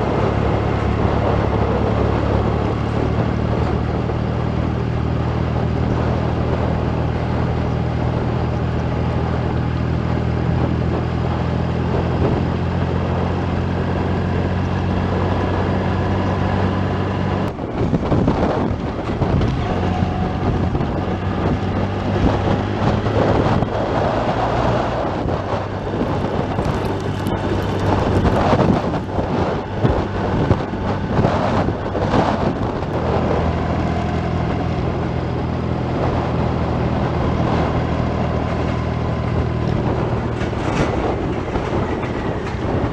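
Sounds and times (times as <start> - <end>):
motorcycle engine running: 0.0 - 42.9
wind buffeting microphone: 0.0 - 42.9.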